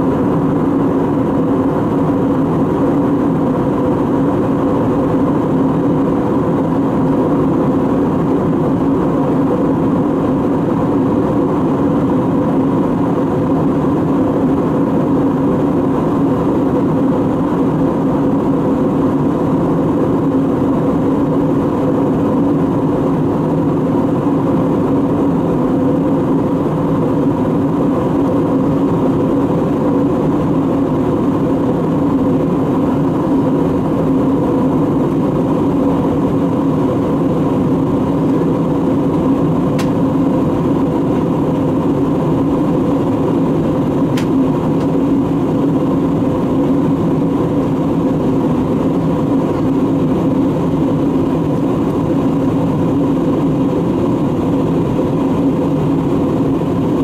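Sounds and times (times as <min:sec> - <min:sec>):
airliner engine drone: 0:00.0 - 0:57.0.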